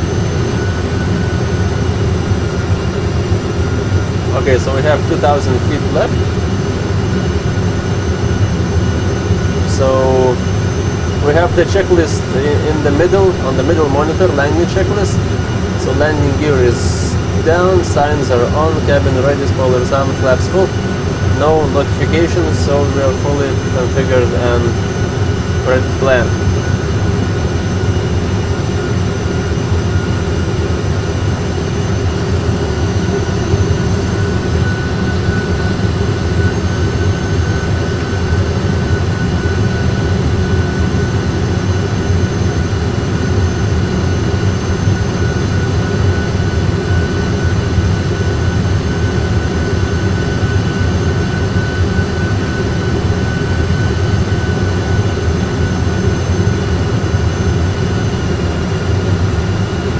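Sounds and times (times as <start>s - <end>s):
engine and airflow rumble: 0.0s - 59.9s
thin steady whine: 0.0s - 59.9s.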